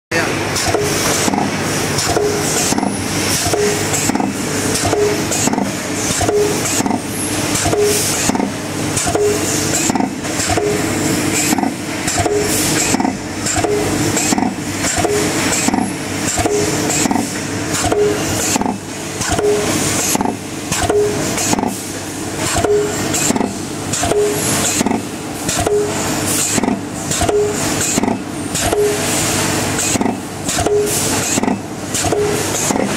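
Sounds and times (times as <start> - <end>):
hissing clicking machine noise: 0.5 - 32.9.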